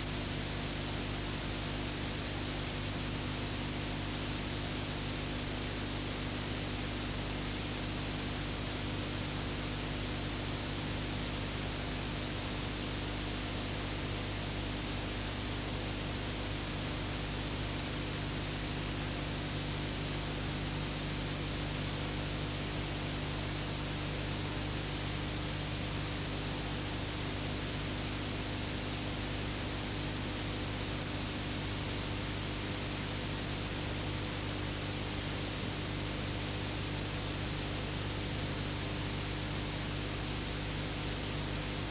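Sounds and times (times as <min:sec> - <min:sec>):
hiss and static: 0:00.0 - 0:41.9.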